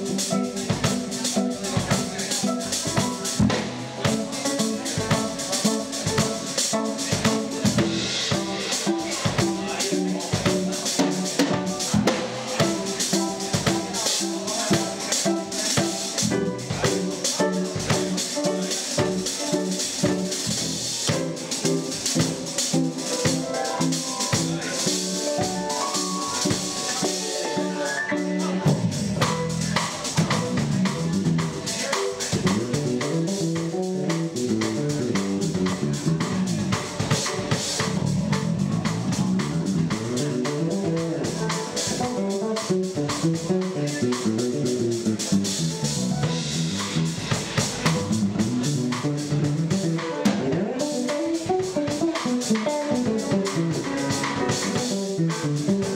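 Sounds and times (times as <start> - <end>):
drum kit with cymbals: 0.0 - 55.9
electric bass guitar: 0.0 - 55.9.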